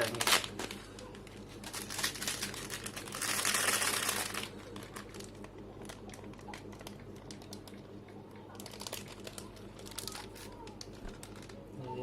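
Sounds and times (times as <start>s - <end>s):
packet crinkling and rustling: 0.0s - 11.7s.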